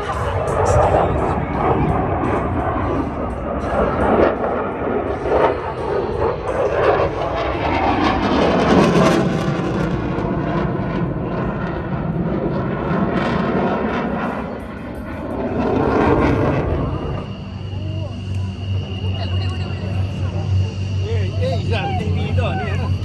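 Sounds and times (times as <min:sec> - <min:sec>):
aircraft flying past: 0:00.0 - 0:23.0.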